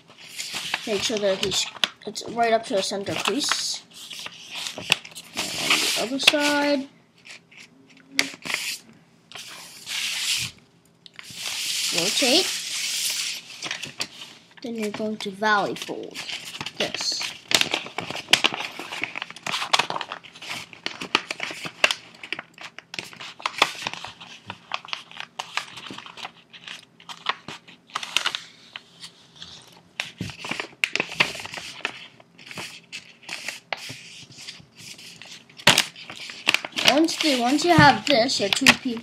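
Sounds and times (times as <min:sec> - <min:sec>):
paper rustling and crinkling: 0:00.1 - 0:10.5, 0:11.2 - 0:39.0.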